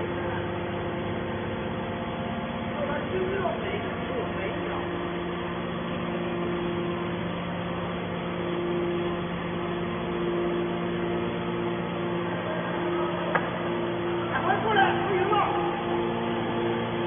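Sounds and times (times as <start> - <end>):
hydraulic baler motor humming: 0.0 - 17.0.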